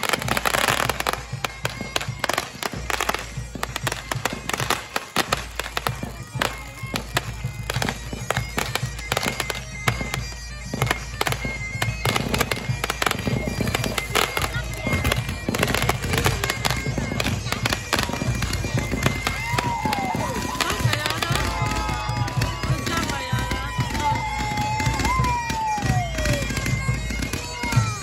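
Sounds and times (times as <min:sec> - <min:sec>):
fireworks bursting and crackling: 0:00.0 - 0:28.0
music with long held notes: 0:00.0 - 0:28.0.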